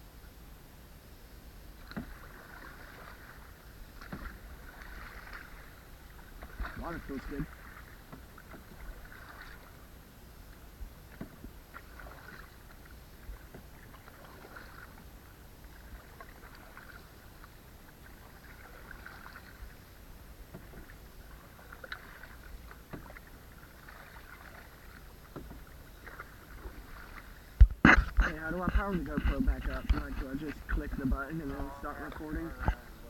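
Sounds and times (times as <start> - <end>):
water lapping against hull: 1.4 - 33.0.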